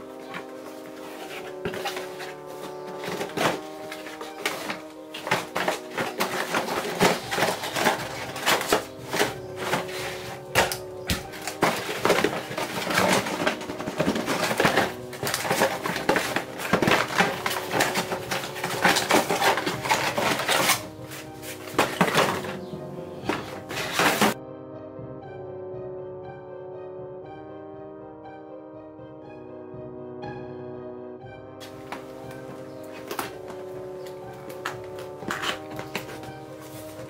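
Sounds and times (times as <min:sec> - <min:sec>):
cardboard rustling and tapping: 0:00.0 - 0:24.4, 0:31.6 - 0:37.0
background music with held tones: 0:00.0 - 0:37.0.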